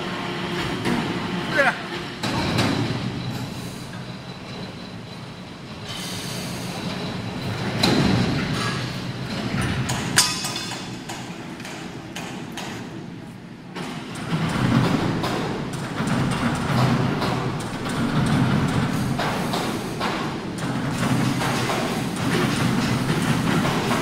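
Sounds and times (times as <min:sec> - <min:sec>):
heavy machinery rumbling: 0:00.0 - 0:24.0.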